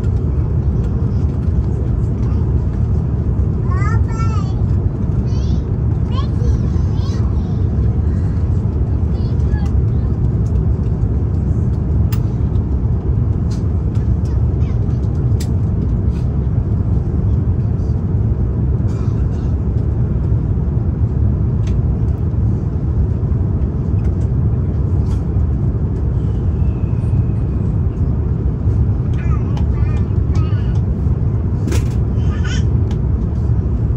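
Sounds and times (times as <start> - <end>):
aircraft cabin engine roar: 0.0 - 33.9.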